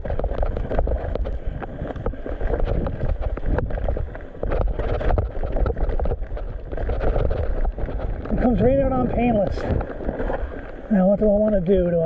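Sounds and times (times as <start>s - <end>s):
wind rumbling on microphone: 0.0s - 11.9s
bike tyres rolling on dirt: 0.0s - 12.0s.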